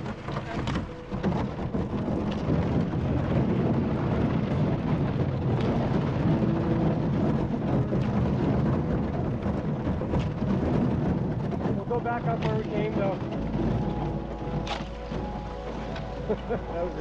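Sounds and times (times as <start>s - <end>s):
paddle strokes splashing water: 0.0s - 17.0s
wind buffeting microphone: 0.0s - 17.0s.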